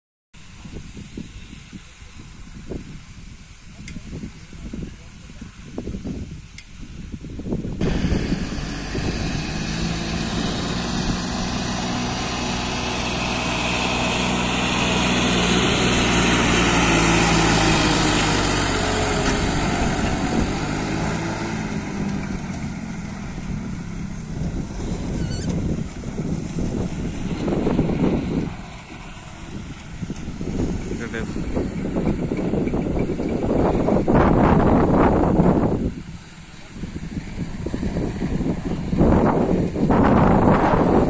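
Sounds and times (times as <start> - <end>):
tractor diesel engine passing: 7.8 - 41.0.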